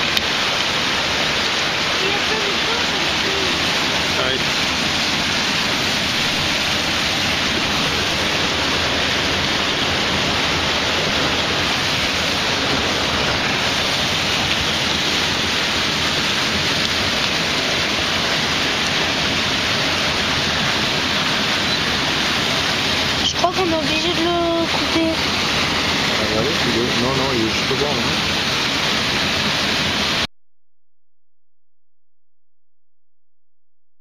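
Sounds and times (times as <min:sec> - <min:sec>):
stream rushing over boulders: 0:00.0 - 0:30.3.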